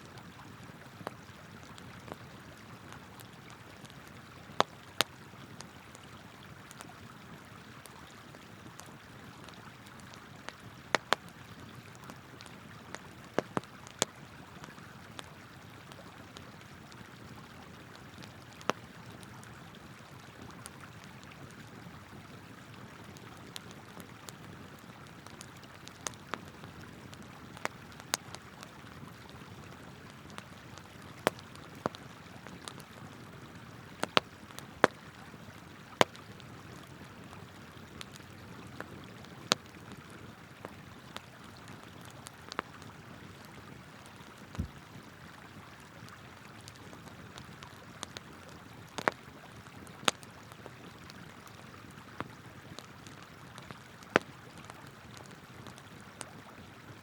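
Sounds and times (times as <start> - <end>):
campfire wood crackling: 0.1 - 56.5.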